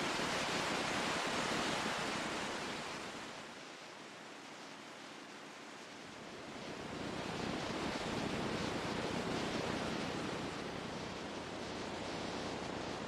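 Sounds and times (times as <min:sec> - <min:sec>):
ocean waves washing: 0:00.0 - 0:13.0.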